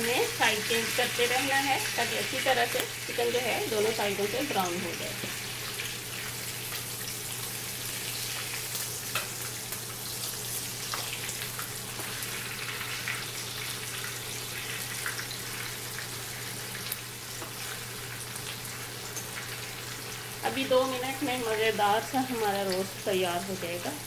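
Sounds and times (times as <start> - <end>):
chicken frying in oil: 0.0 - 24.0.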